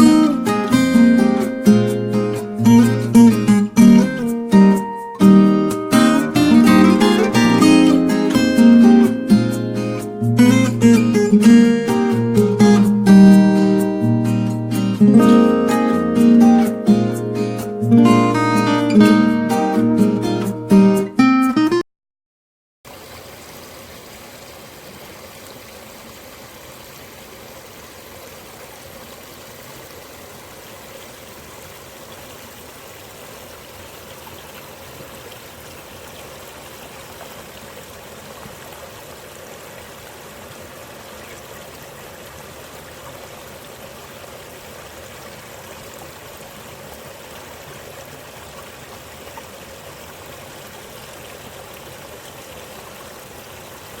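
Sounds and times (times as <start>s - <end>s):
running water rushing: 0.0s - 20.9s, 22.9s - 54.0s.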